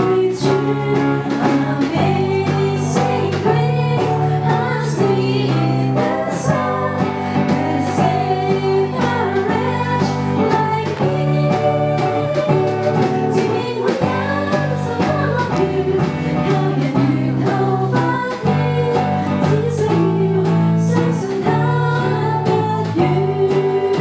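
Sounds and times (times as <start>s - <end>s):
strummed guitar: 0.0s - 24.0s
woman singing into microphone: 0.0s - 24.0s.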